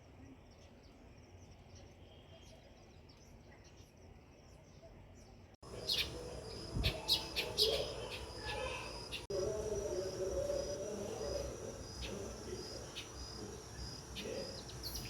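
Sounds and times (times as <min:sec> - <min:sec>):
low steady background noise: 0:00.0 - 0:15.0
sparrows chirping: 0:00.1 - 0:15.0.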